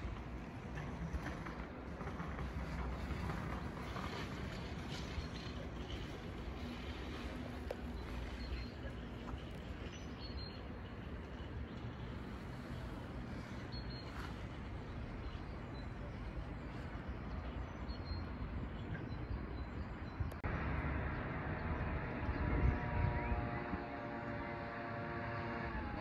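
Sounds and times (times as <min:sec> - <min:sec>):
distant traffic rumble: 0:00.0 - 0:26.0.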